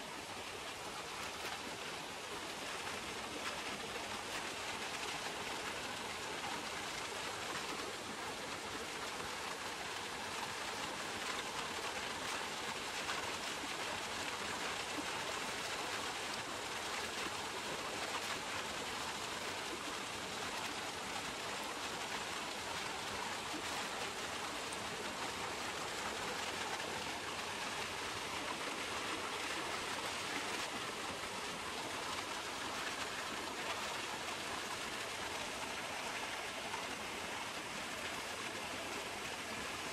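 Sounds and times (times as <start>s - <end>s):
stream splashing over rocks: 0.0s - 39.9s.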